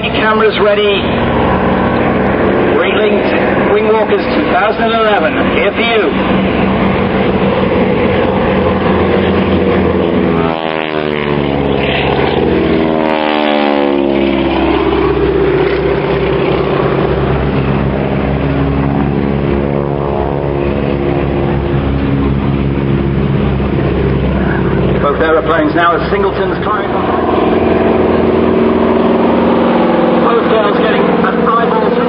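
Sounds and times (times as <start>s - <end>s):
propeller aircraft flying past: 0.0s - 32.0s.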